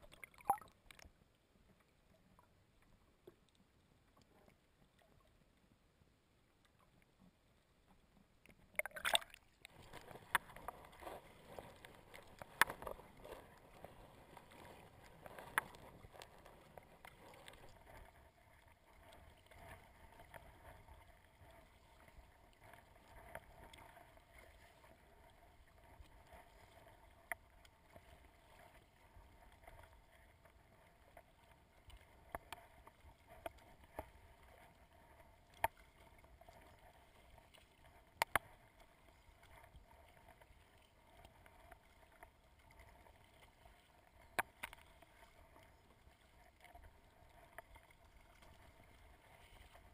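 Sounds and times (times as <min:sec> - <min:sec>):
water splashing against kayak: 0:00.0 - 0:05.8, 0:06.6 - 0:49.9.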